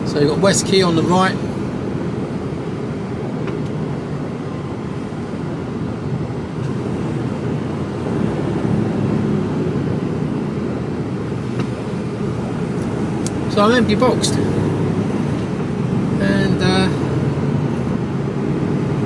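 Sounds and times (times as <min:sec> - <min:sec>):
lorry engine and road rumble: 0:00.0 - 0:19.0.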